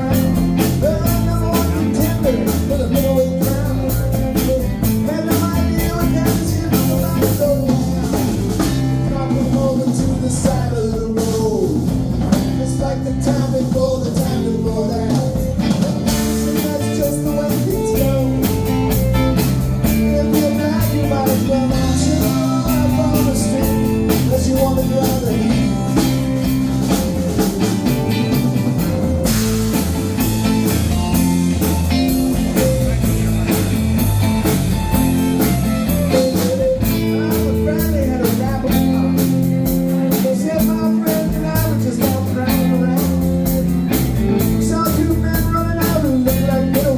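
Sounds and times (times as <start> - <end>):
bass: 0.0 - 46.9
drum kit: 0.0 - 46.9
electric guitar: 0.0 - 46.9.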